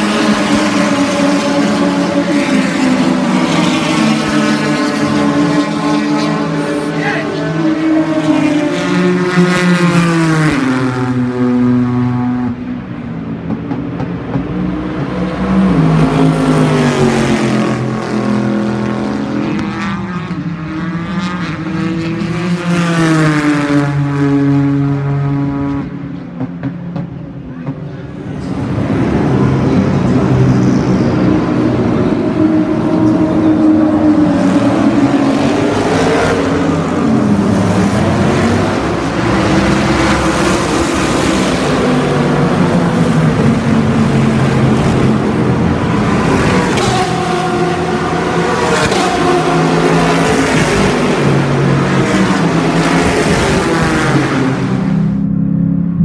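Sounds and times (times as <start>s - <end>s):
race cars passing at speed: 0.0s - 56.0s.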